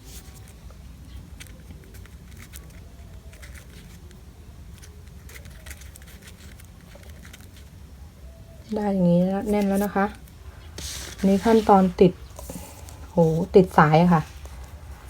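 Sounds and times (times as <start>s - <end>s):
hands tapping and rustling craft piece: 0.0s - 7.8s, 9.0s - 15.0s
steady low hum: 0.0s - 15.0s.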